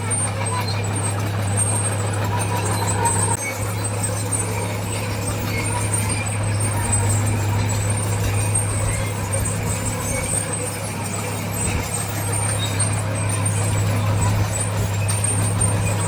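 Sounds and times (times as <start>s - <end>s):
heavy diesel engine under load: 0.0s - 16.0s.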